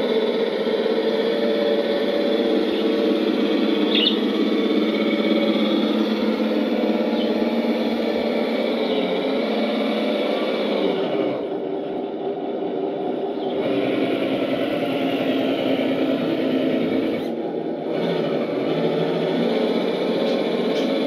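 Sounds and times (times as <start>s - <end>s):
electric motor whining: 0.0s - 12.2s, 13.2s - 21.0s.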